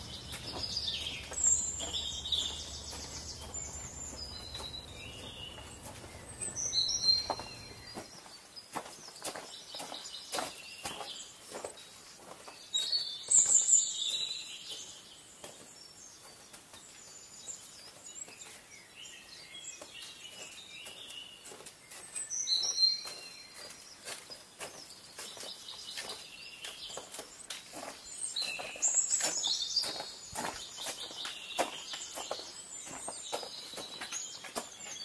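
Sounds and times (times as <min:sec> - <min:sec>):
footsteps crunching on icy snow: 0:00.0 - 0:16.9, 0:19.7 - 0:35.0
songbirds singing: 0:00.0 - 0:35.0.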